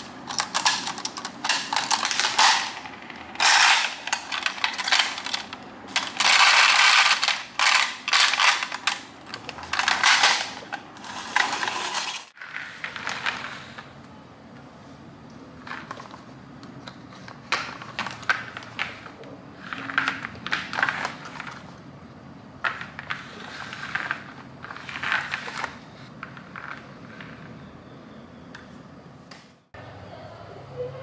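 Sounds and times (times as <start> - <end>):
toy parts clattering: 0.0 - 13.9, 15.6 - 21.8, 22.6 - 27.6.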